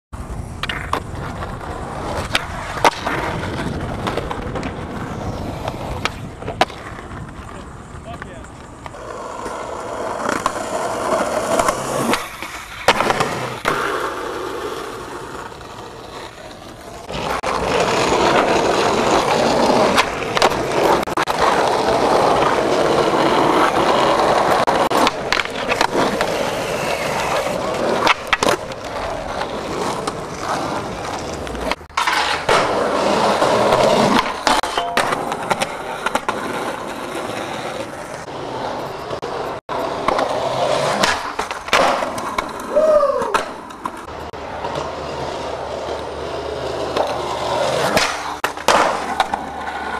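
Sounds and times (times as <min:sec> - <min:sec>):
skateboard wheels rolling on concrete: 0:00.1 - 0:49.9
skateboard clacking on ground: 0:00.2 - 0:49.9.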